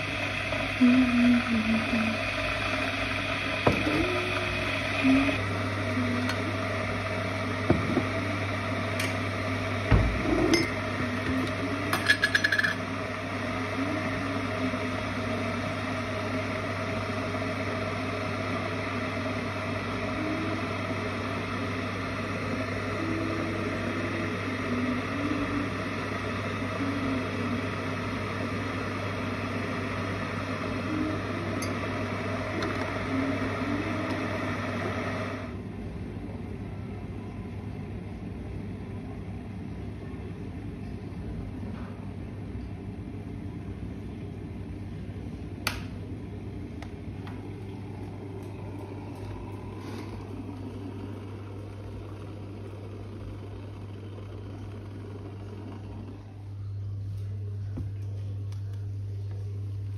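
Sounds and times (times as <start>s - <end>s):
electric kettle humming and hissing: 0.0s - 59.9s.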